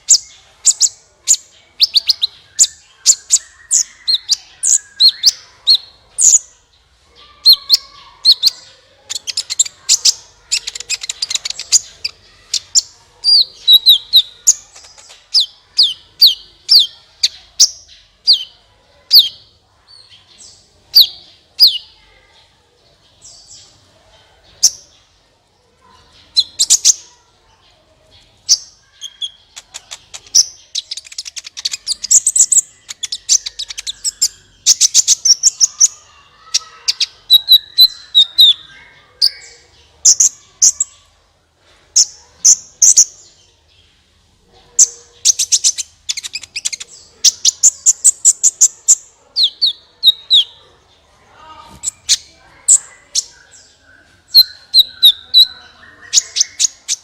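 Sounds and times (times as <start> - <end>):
bird chirping and trilling: 0.0 - 22.4, 25.9 - 41.2, 41.9 - 43.9, 44.6 - 57.0.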